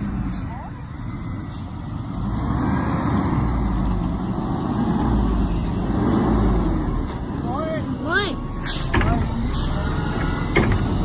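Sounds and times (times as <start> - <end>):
truck diesel engine rumble: 0.0 - 11.0.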